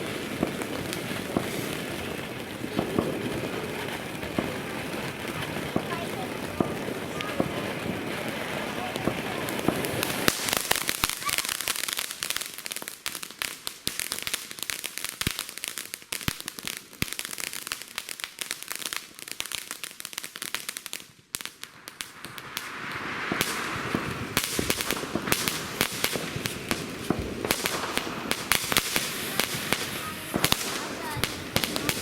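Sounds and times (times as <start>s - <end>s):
fireworks hiss: 0.0s - 19.8s, 21.5s - 32.0s
fireworks crackling: 0.0s - 32.0s.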